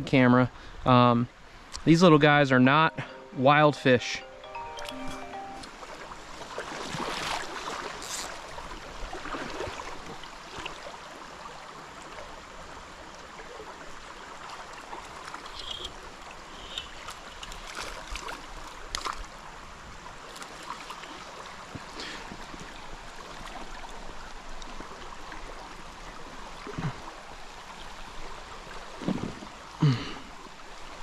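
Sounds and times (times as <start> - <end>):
water flowing over rocks: 4.6 - 31.0.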